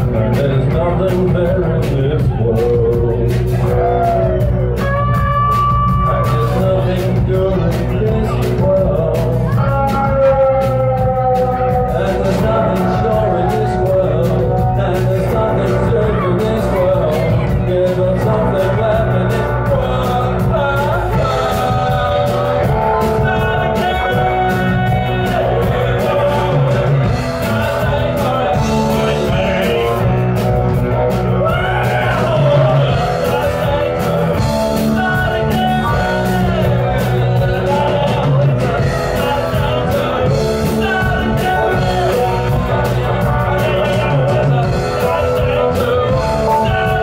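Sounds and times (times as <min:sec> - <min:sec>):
drum kit: 0:00.0 - 0:47.0
electric guitars: 0:00.0 - 0:47.0
keyboard: 0:00.0 - 0:47.0
person singing: 0:00.0 - 0:47.0.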